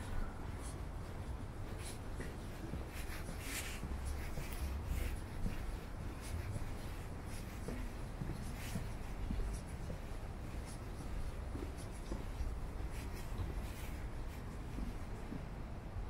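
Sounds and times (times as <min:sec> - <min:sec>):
footsteps walking: 0:00.0 - 0:15.7.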